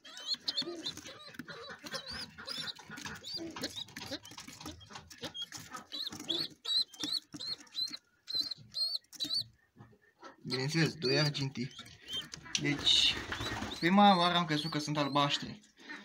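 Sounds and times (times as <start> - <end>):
rustling in nest: 0.0 - 15.5
pigeon squabs peeping: 0.0 - 16.0.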